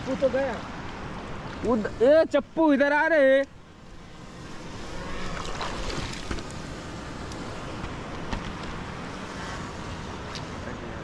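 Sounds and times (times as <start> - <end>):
wind and water rushing: 0.0 - 10.3.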